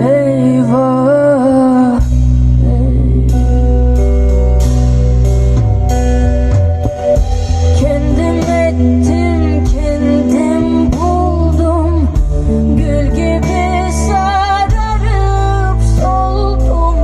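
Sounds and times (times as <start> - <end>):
song with singing and strong bass: 0.0 - 17.0.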